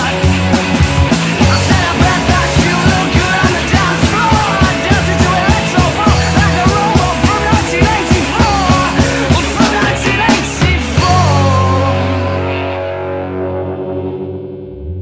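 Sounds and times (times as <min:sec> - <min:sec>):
fast steady drum beat: 0:00.0 - 0:12.1
loud rock music: 0:00.0 - 0:15.0.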